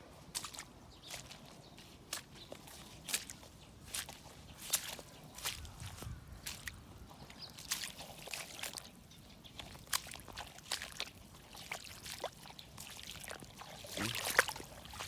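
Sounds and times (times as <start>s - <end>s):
footsteps splashing through water: 0.2s - 15.0s.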